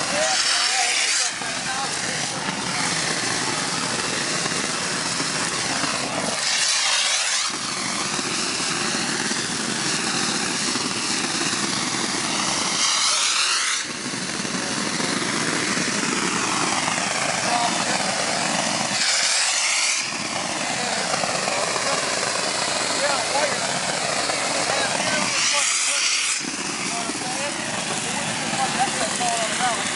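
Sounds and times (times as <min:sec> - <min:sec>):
concrete spraying hiss: 0:00.0 - 0:29.9.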